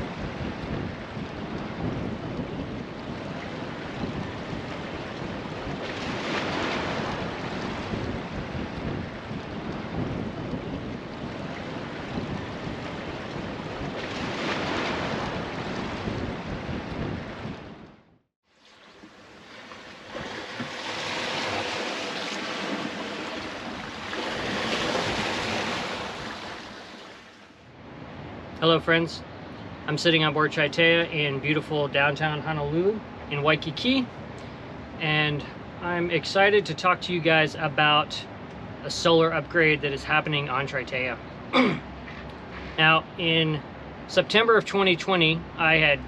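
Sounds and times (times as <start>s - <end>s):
ocean waves and surf rushing: 0.0s - 31.2s, 31.8s - 37.0s, 37.6s - 46.0s
wind: 0.0s - 46.0s.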